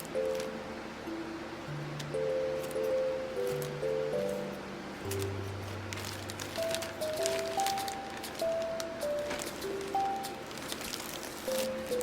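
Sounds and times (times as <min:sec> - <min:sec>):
slow melody of held notes: 0:00.0 - 0:10.5, 0:11.4 - 0:12.0.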